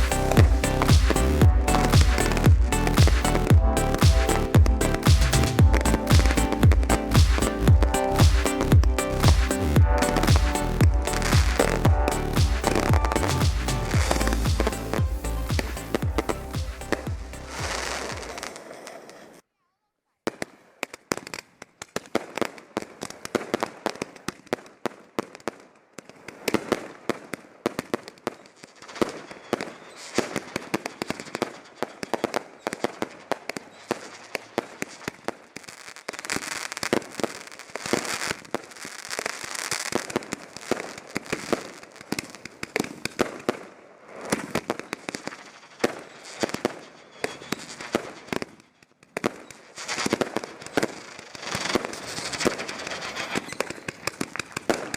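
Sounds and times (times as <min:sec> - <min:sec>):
fireworks bangs and crackling: 0:00.0 - 0:19.4, 0:20.3 - 0:54.9.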